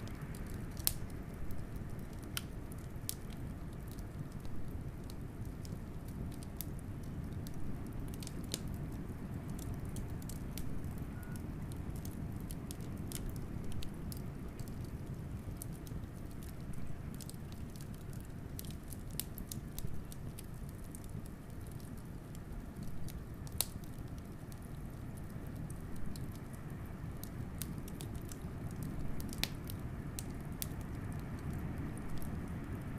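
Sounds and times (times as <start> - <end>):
low rumble of wind: 0.0 - 32.9
wood fire crackling and popping: 0.0 - 32.9.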